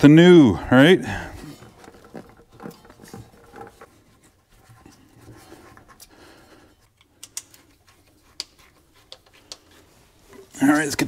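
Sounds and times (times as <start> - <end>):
scraping and handling noise: 1.3 - 11.0.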